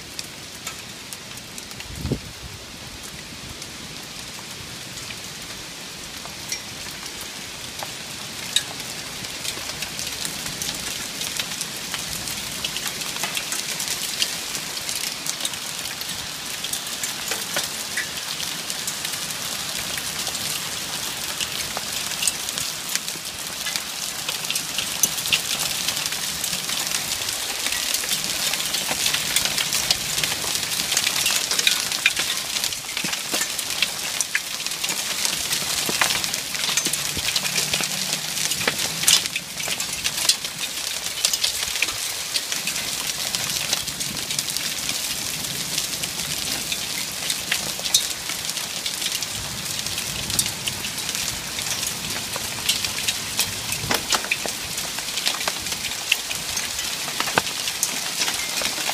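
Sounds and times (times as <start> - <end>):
rain patter: 0.0 - 58.9.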